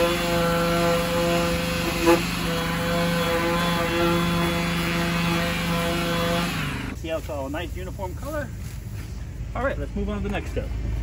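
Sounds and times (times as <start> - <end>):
orbital sander sanding plastic: 0.0 - 9.0.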